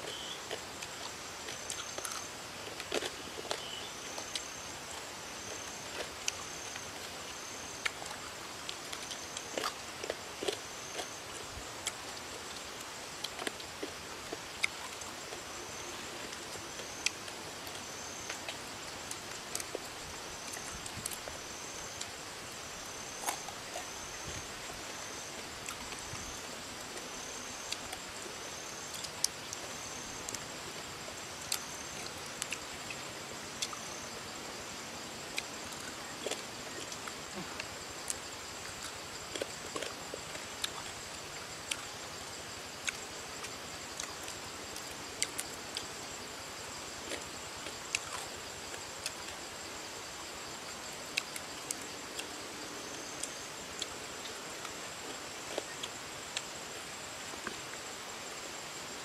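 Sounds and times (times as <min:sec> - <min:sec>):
crunchy chewing: 0:00.0 - 0:22.2, 0:22.9 - 0:30.4, 0:31.4 - 0:34.2, 0:35.2 - 0:46.2, 0:46.8 - 0:49.6, 0:50.2 - 0:56.5
steady hiss: 0:00.0 - 0:59.0.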